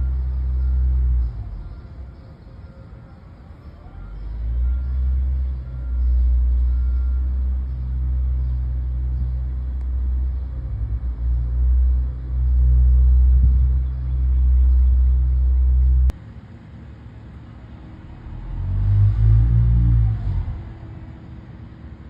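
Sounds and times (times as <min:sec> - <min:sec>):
construction machinery engine rumble: 0:00.0 - 0:22.0.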